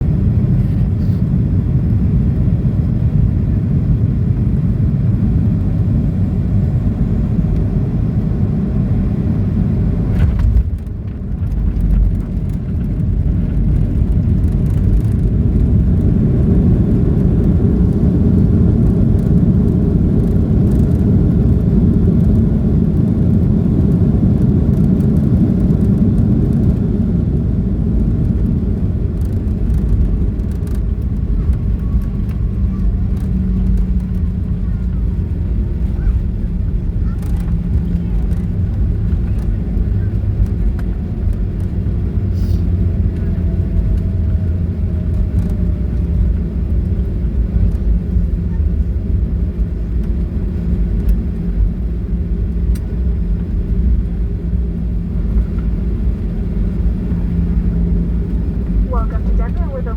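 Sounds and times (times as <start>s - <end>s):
airplane engines rumbling: 0.0s - 59.9s.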